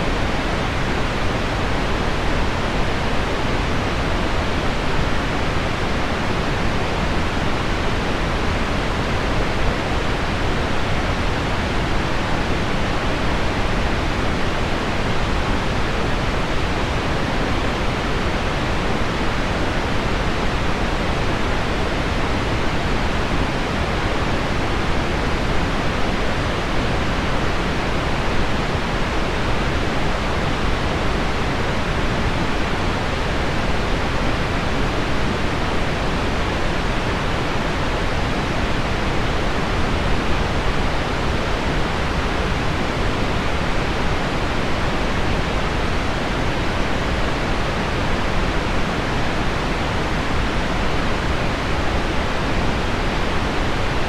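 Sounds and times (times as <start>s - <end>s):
deep pink noise hiss: 0.0s - 54.0s.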